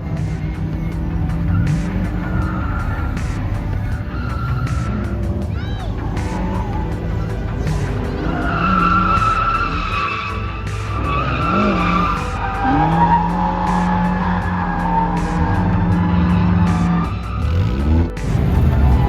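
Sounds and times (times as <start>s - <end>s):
car engine noise: 0.0s - 19.0s
tire squeals: 0.0s - 19.0s.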